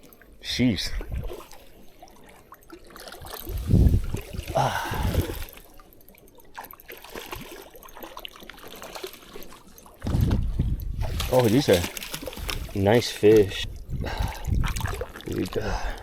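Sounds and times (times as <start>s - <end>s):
water trickling and lapping: 0.0s - 16.0s
fish thrashing and splashing water: 1.1s - 16.0s.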